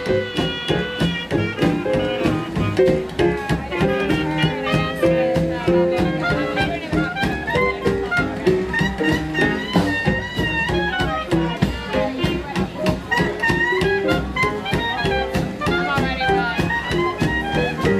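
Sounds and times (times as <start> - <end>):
jazz band playing: 0.0 - 17.9.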